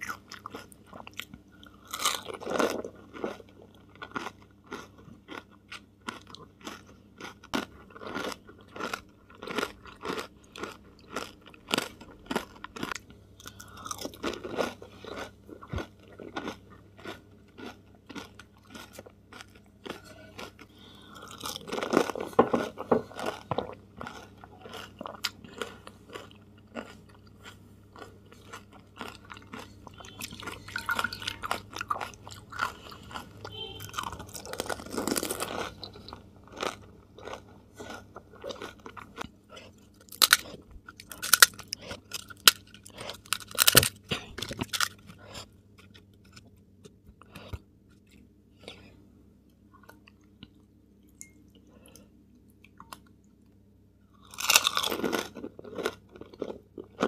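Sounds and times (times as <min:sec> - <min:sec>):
chewing and crunching crisp food: 0:00.0 - 0:57.0.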